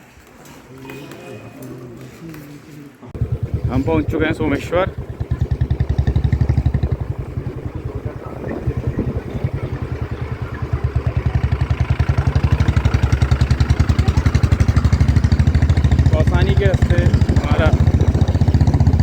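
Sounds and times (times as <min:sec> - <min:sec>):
motorcycle engine running: 0:03.2 - 0:19.0.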